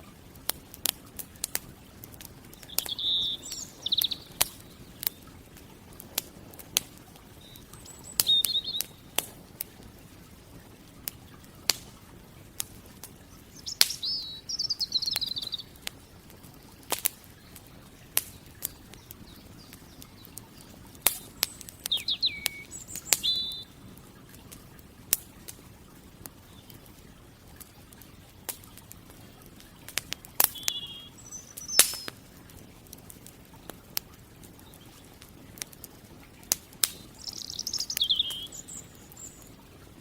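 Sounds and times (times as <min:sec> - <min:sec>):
campfire crackling and popping: 0:00.0 - 0:40.0
songbirds singing trills: 0:02.0 - 0:11.7, 0:13.1 - 0:23.9, 0:26.3 - 0:32.4, 0:34.5 - 0:40.0.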